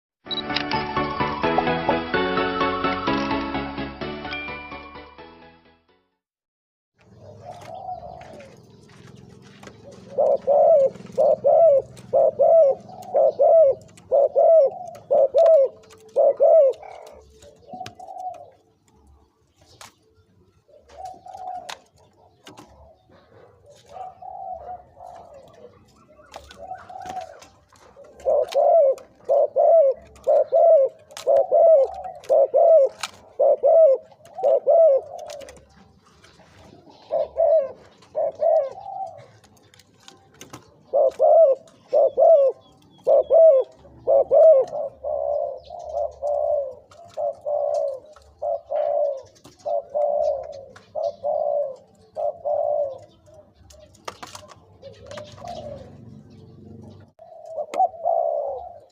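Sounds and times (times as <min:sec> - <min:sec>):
dove cooing: 0:07.0 - 0:58.9.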